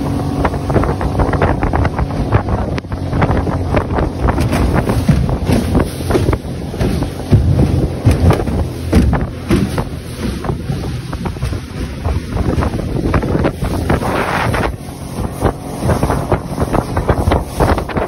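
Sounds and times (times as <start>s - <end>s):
boat hull thumping on waves: 0.0s - 18.0s
rushing water: 0.0s - 18.0s
wind buffeting microphone: 0.0s - 18.0s.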